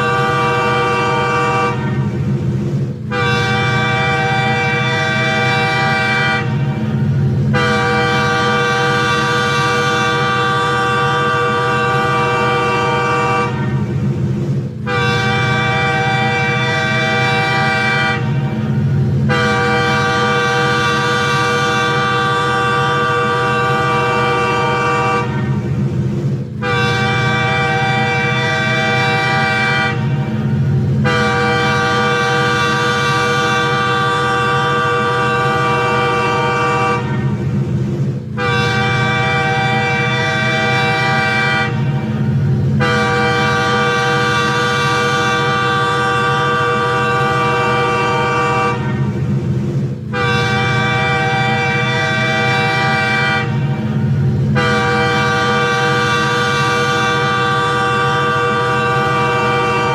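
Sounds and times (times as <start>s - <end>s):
low rumble of train: 0.0s - 59.9s
train horn blasts: 0.0s - 59.9s.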